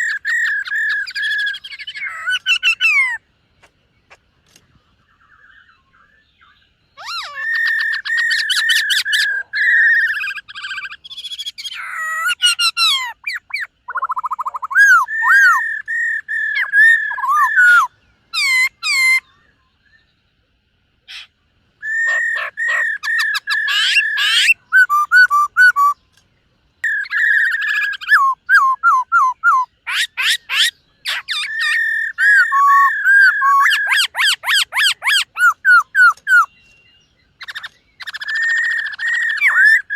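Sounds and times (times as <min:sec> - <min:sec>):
bird singing whistles and trills: 0:00.0 - 0:03.2, 0:05.0 - 0:20.3, 0:21.1 - 0:26.2, 0:26.8 - 0:39.9.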